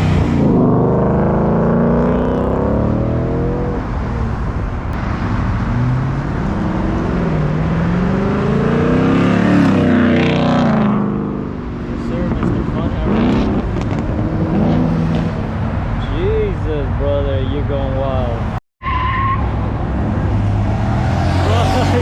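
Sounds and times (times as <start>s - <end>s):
car engine revving: 0.0s - 16.6s, 19.7s - 22.0s.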